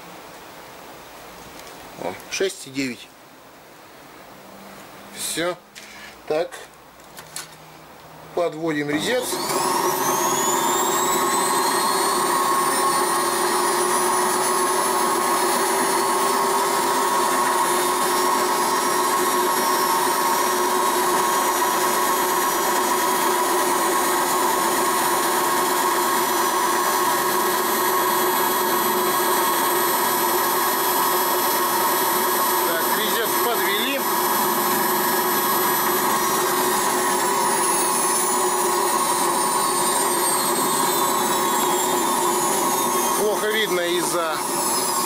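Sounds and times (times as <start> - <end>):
metal lathe whining: 8.8 - 45.0.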